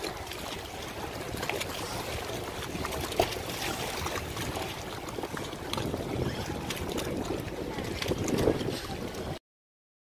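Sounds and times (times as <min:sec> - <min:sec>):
small waves lapping: 0:00.0 - 0:09.4
wind on microphone: 0:00.0 - 0:09.4.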